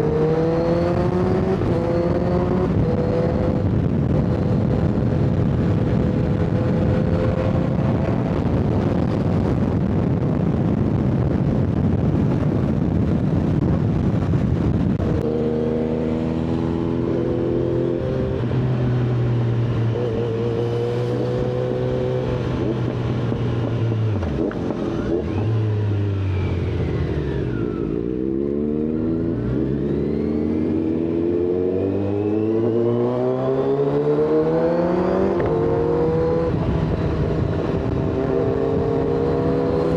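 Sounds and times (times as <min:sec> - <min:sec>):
rushing wind noise: 0:00.0 - 0:39.9.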